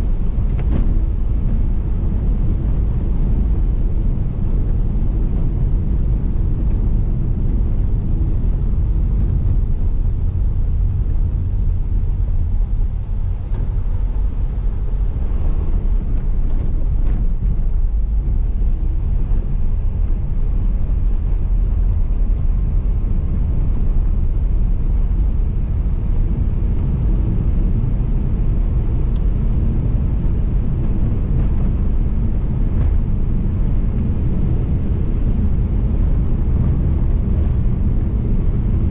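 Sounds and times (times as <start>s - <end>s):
car tyres and engine rumble: 0.0s - 38.9s.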